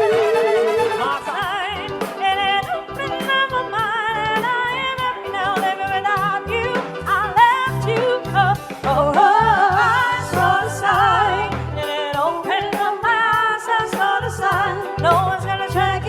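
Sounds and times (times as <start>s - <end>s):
bass notes: 0.0s - 12.0s, 14.1s - 16.0s
wordless vocal melody: 0.0s - 16.0s.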